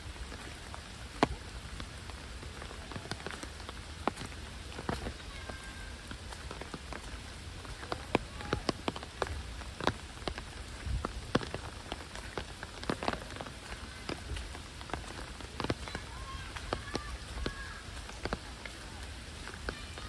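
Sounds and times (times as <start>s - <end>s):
heavy rain hissing: 0.0s - 20.0s
raindrops tapping: 0.0s - 20.0s.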